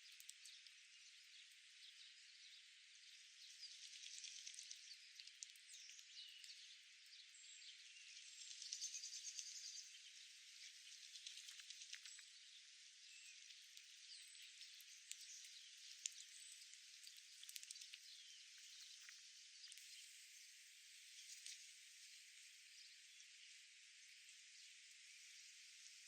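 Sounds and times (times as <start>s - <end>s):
small ticks: 0.0s - 20.4s, 21.0s - 22.6s.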